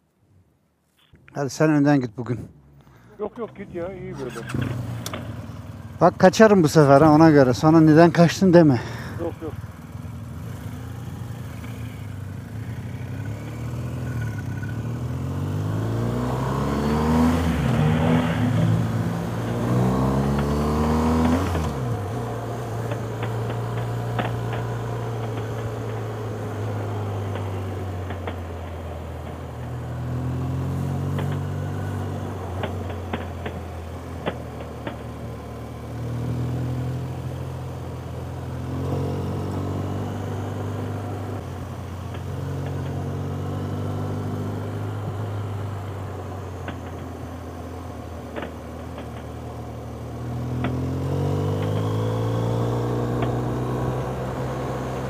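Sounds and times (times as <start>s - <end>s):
motorcycle engine accelerating: 2.9s - 55.0s.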